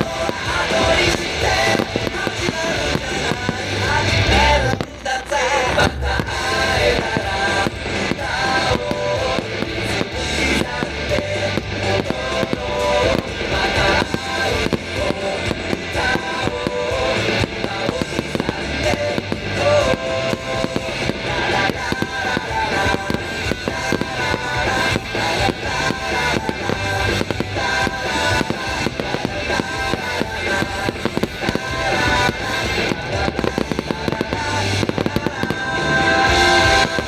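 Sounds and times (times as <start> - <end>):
fireworks bangs: 0.0 - 37.0
loud music: 0.0 - 37.0.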